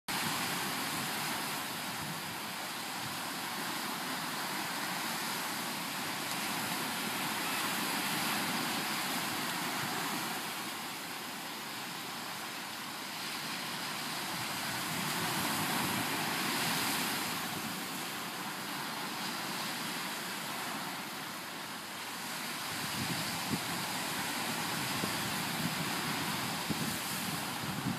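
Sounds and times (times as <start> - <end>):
surf washing up a beach: 0.1 - 27.9.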